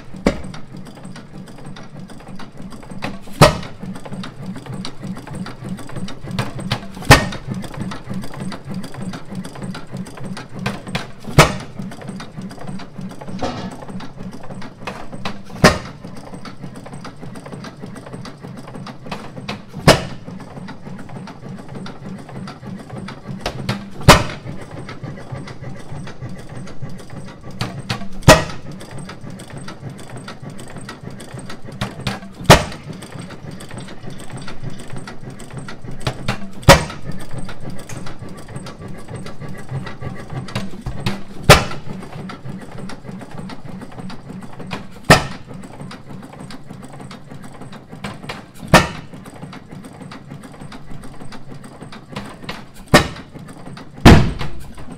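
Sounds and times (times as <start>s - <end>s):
engine mechanical clatter: 0.0s - 54.9s.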